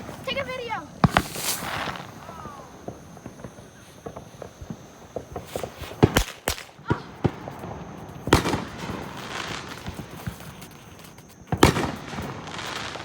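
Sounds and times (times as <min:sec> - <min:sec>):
firework bangs: 0:00.0 - 0:13.0
firework crackles: 0:00.0 - 0:13.0.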